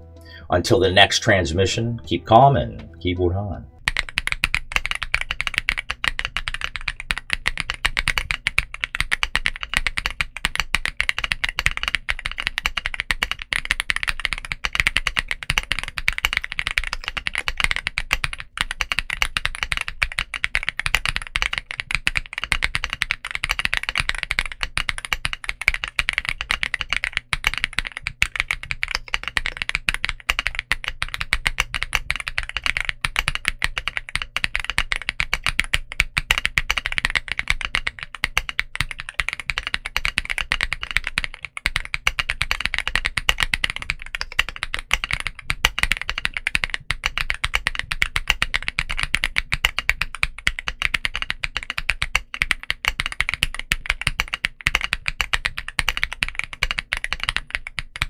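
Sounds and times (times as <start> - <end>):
fast typing on mechanical keyboard: 3.8 - 58.0.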